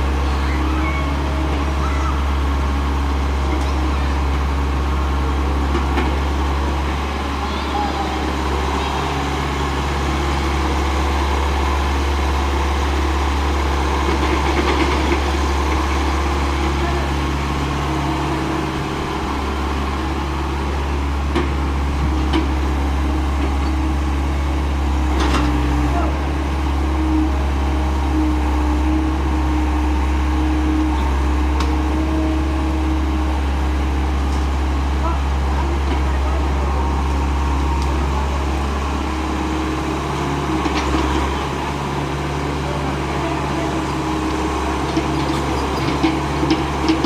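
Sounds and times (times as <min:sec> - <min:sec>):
heavy diesel engine running: 0:00.0 - 0:47.0
people's voices: 0:00.0 - 0:47.0.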